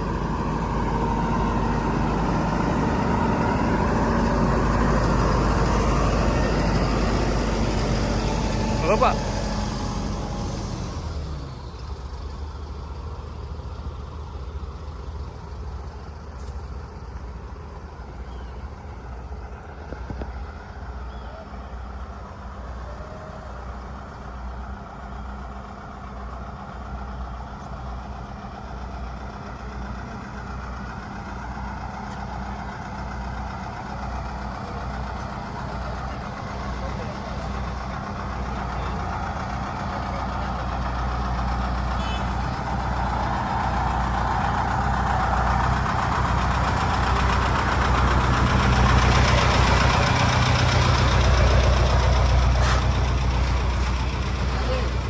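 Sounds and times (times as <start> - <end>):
large vehicle engine idling: 0.0 - 55.0.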